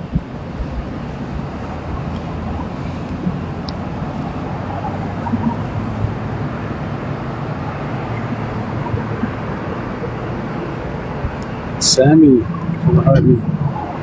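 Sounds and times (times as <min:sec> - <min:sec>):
noisy hiss: 0:00.0 - 0:14.0
vehicle rumbling: 0:00.0 - 0:14.0.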